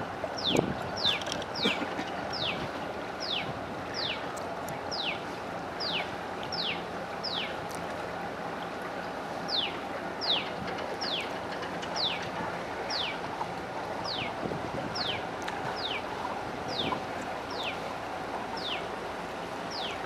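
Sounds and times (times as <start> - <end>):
boat engine hum and water wash: 0.0 - 20.0.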